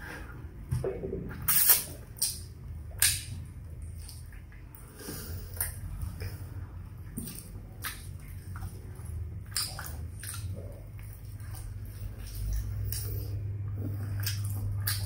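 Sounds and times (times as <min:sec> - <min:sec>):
low steady hum: 0:00.0 - 0:15.0
wet biting and chewing: 0:01.3 - 0:15.0.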